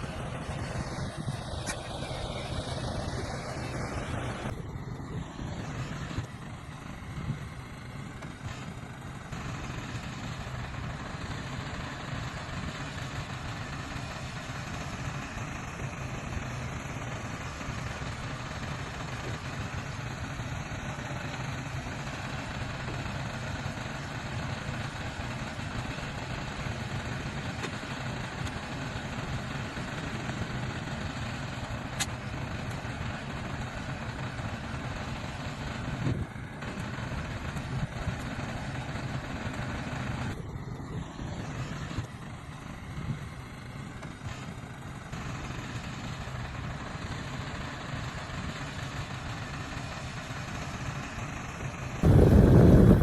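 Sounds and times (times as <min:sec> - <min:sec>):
heavy diesel engine rumbling: 0:00.0 - 0:53.0.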